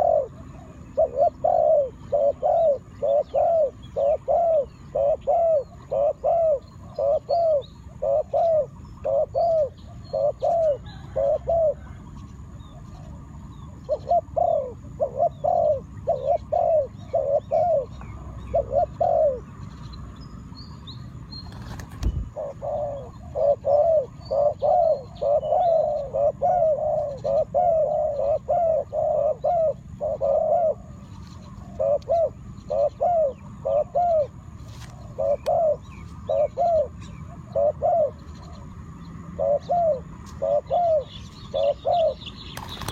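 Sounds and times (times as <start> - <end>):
bird cooing: 0.0 - 19.6, 21.5 - 42.9.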